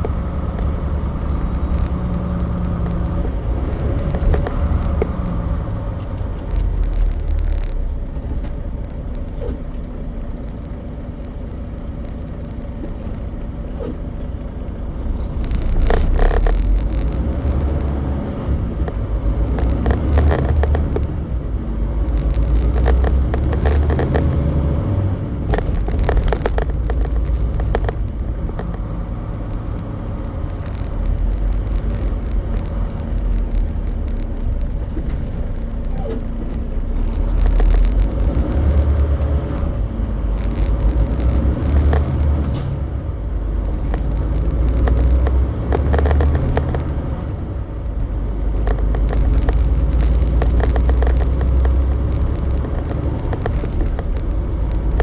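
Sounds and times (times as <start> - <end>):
rattling and clatter: 0.0 - 55.0
road noise: 0.0 - 55.0
truck diesel engine rumble: 0.0 - 55.0.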